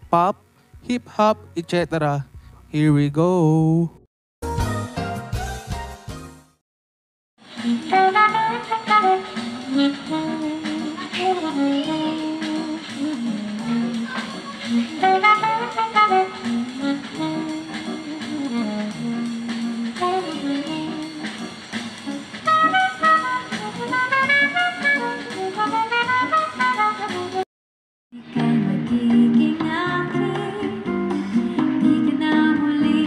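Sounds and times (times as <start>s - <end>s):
instrumental music through speakers: 4.4s - 6.5s, 7.6s - 27.4s, 28.2s - 33.0s.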